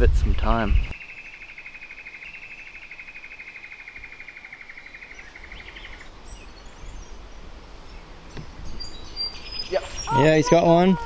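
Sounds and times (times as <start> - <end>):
faint high bird chirps: 0.7 - 7.2, 7.8 - 11.0.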